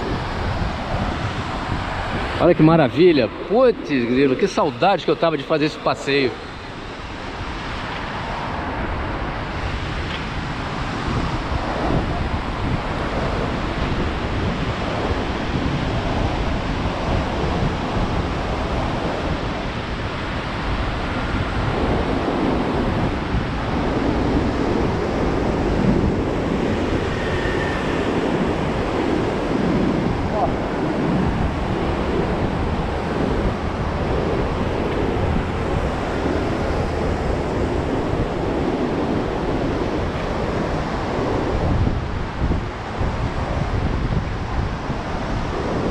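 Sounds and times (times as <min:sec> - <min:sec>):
sea surf washing: 0:00.0 - 0:45.9
wind on microphone: 0:00.0 - 0:45.9.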